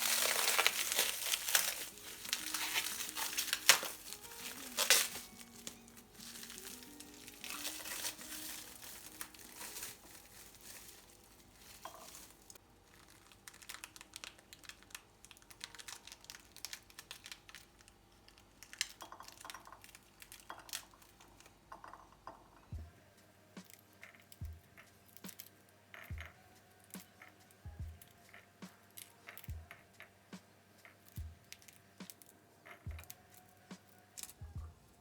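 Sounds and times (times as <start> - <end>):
soft crinkling and rustling: 0.0 - 22.5, 23.6 - 35.0.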